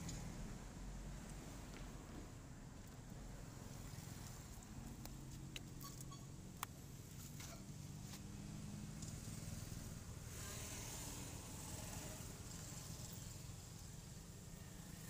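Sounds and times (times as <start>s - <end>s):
faint vehicle engine hum: 0.0s - 15.0s.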